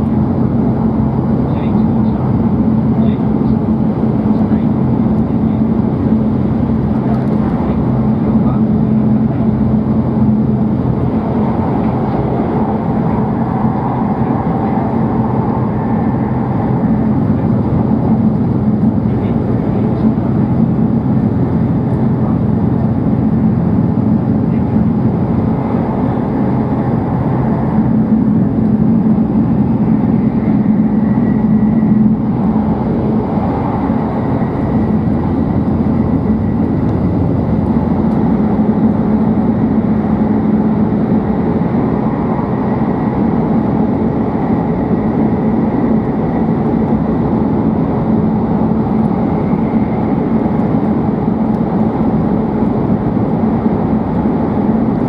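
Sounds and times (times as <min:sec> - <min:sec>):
train cabin rumble: 0:00.0 - 0:55.0.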